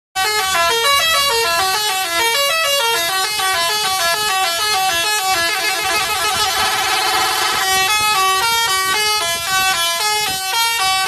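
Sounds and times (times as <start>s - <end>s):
multi-tone bus horn tune: 0.2s - 11.0s.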